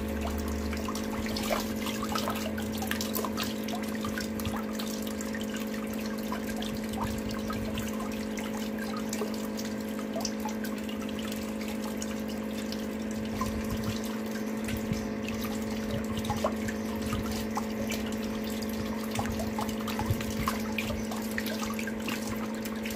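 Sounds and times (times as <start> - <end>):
steady low hum: 0.0 - 22.9
water drips and splashes: 0.0 - 22.9
water swirling and trickling: 0.0 - 22.9.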